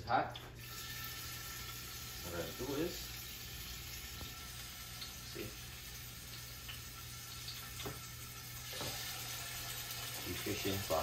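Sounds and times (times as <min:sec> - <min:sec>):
meat sizzling in hot oil: 0:00.5 - 0:11.0.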